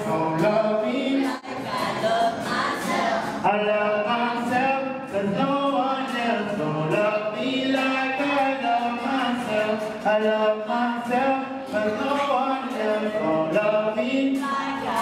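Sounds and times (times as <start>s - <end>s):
man singing into a microphone: 0.0s - 1.4s, 3.4s - 15.0s
acoustic guitar: 0.0s - 15.0s.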